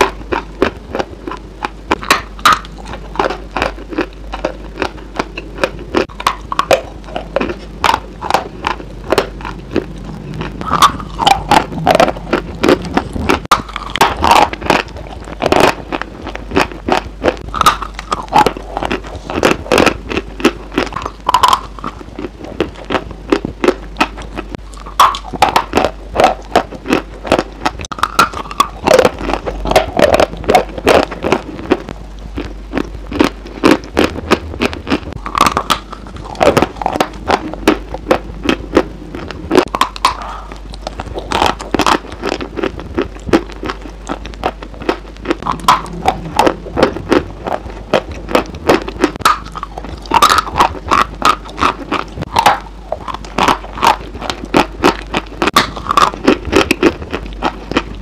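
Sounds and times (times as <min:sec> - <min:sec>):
crunchy food chewing: 0:00.0 - 0:58.0.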